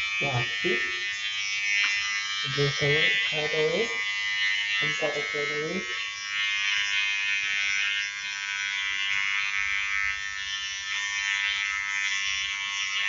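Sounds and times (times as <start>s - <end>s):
hair trimmer buzzing: 0.0s - 13.0s.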